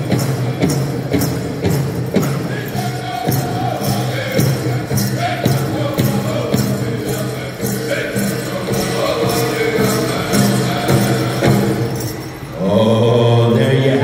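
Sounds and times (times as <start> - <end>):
big drum beat: 0.0 - 12.3
bells jingling: 0.0 - 14.0
group singing with high voices: 2.1 - 14.0.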